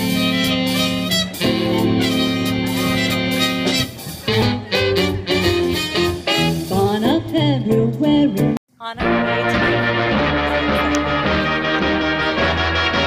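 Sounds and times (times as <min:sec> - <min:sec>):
swing band playing: 0:00.0 - 0:13.0.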